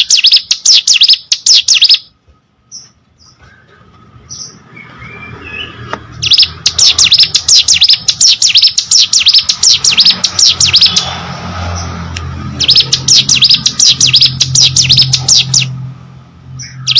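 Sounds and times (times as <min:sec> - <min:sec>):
bird singing high sweeping notes: 0:00.0 - 0:16.9.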